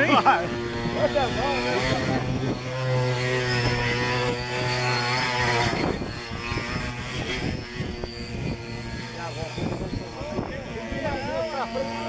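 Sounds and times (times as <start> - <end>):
wooden cart axle droning whine: 0.0 - 12.0.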